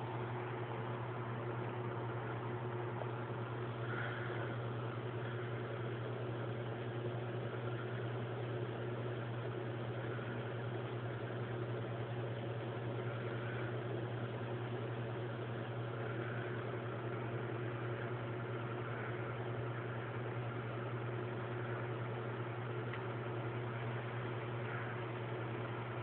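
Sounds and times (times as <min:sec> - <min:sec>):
low hum with hiss: 0:00.0 - 0:26.0.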